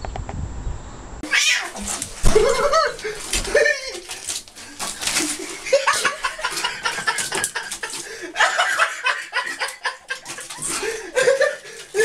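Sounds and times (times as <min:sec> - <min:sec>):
people chuckling and laughing: 0:02.2 - 0:12.0.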